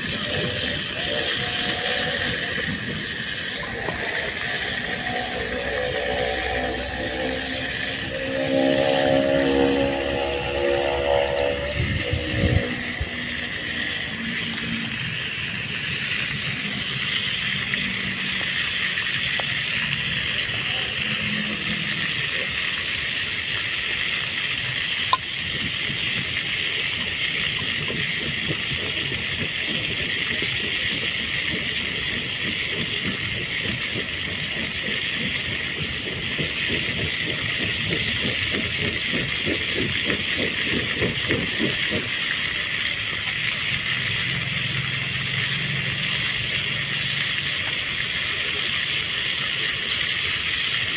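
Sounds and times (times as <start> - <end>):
batter sizzling in oil: 0.0 - 50.9
crackling oil bubbles: 0.0 - 50.9.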